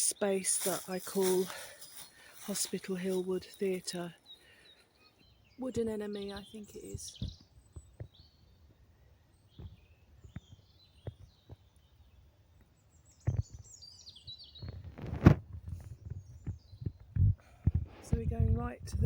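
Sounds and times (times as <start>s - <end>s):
birds chirping: 0.0s - 15.0s, 15.6s - 19.0s.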